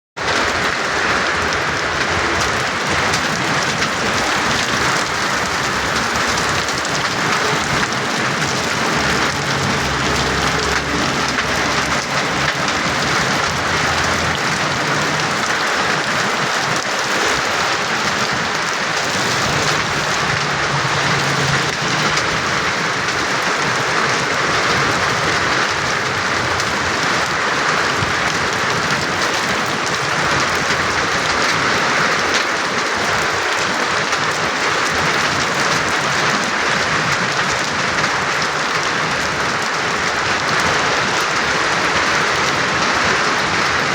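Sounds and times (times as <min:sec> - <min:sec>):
heavy rain pouring: 0:00.2 - 0:43.9.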